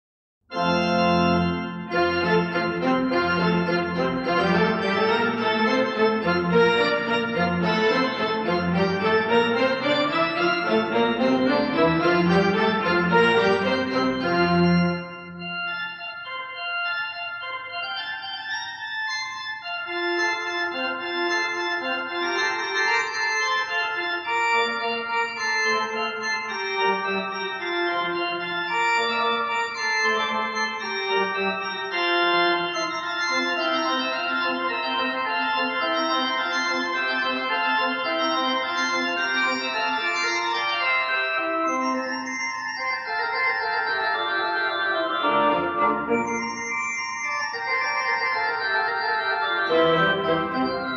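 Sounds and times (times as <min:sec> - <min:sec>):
slow organ music: 0:00.5 - 0:50.9.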